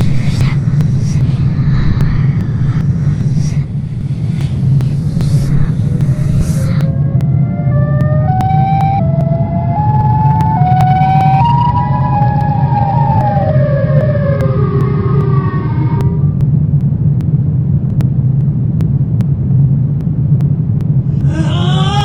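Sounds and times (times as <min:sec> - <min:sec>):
sliding pitched tone: 0:00.0 - 0:16.8, 0:21.0 - 0:22.0
low rumbling drone: 0:00.0 - 0:22.0.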